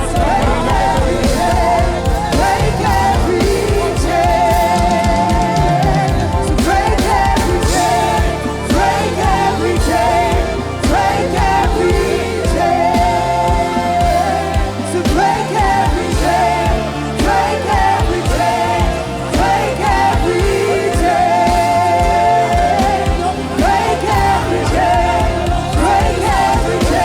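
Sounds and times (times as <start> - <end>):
bass: 0.0 - 27.0
person singing: 0.0 - 27.0
steady drum beat: 0.0 - 27.0.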